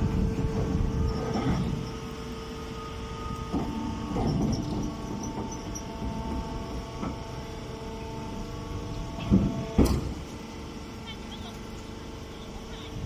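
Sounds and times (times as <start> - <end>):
motor and hydraulic pump humming: 0.0 - 13.0.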